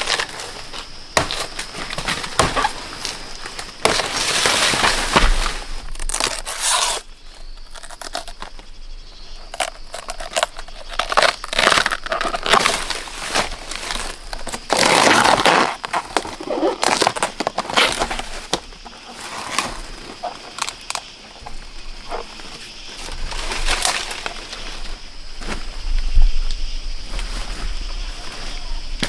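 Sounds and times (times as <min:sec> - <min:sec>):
crunching and rustling: 0:00.0 - 0:29.0.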